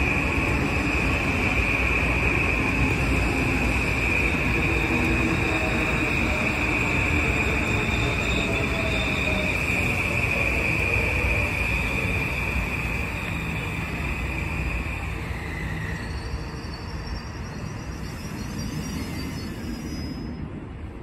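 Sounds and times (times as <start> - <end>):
high-pitched squeal: 0.0 - 20.4
train rumbling past on rails: 0.0 - 21.0.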